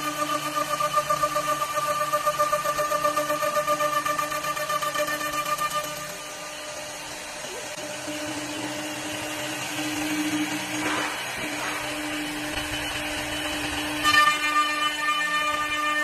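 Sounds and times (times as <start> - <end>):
lathe motor whine: 0.0 - 16.0
rushing noise of wood cutting: 0.0 - 16.0.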